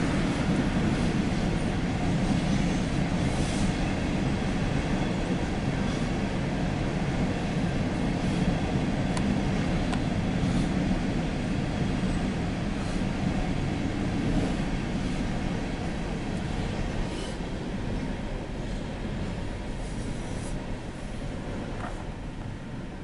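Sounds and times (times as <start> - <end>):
freight car wheels rumbling on rail: 0.0 - 23.0.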